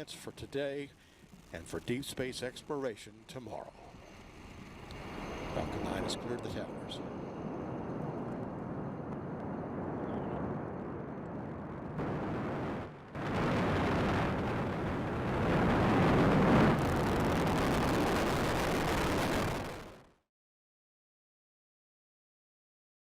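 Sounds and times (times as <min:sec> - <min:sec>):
rocket engines rushing roar: 0:00.0 - 0:20.1.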